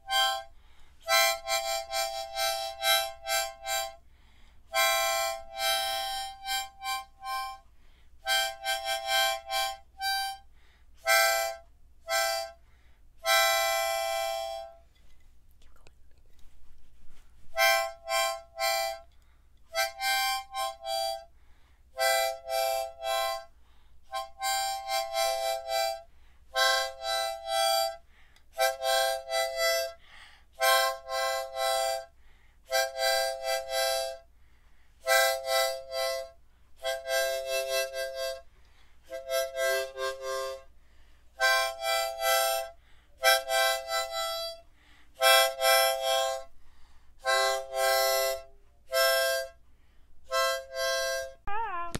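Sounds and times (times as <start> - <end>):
harmonica chords: 0.0 - 15.0, 17.4 - 34.3, 34.9 - 49.6, 50.2 - 51.9.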